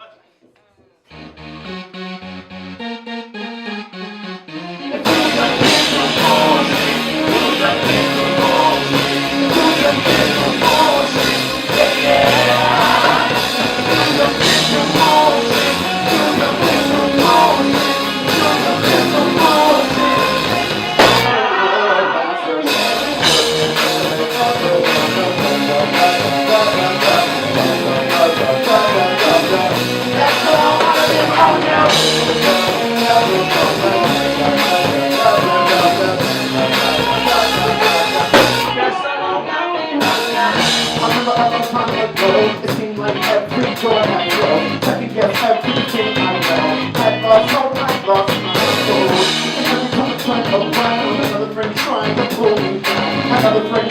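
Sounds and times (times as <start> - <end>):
bass: 1.1 - 21.5, 22.7 - 38.9, 40.0 - 53.9
guitar: 4.8 - 53.9
drum kit steady beat: 5.0 - 21.5, 22.7 - 38.9, 40.0 - 53.9.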